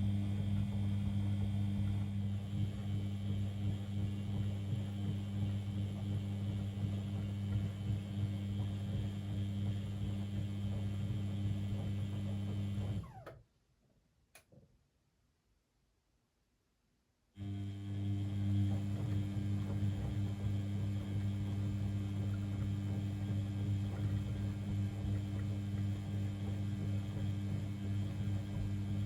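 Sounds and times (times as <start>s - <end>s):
washing machine humming: 0.0s - 13.4s, 17.4s - 29.0s.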